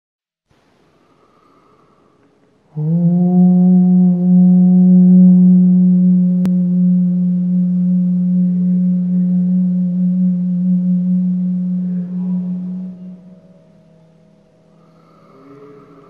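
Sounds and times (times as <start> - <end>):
low humming drone: 2.6 - 16.0.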